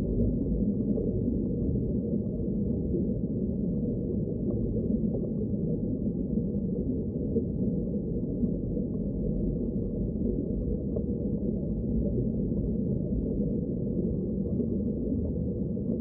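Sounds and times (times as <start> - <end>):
dark low rumble: 0.0 - 16.0.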